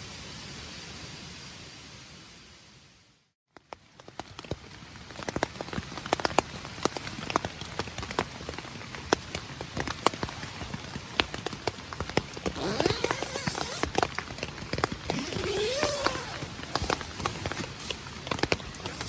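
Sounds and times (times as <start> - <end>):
campfire crackling: 3.6 - 19.0.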